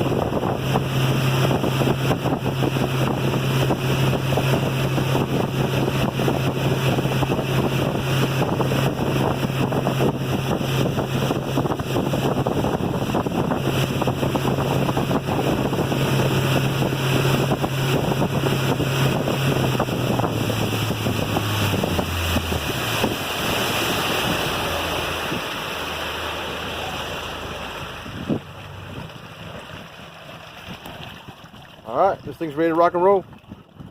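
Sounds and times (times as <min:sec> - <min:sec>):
outboard motor running: 0:00.0 - 0:33.9
water rushing past hull: 0:00.0 - 0:33.9
wind buffeting the microphone: 0:00.0 - 0:33.9.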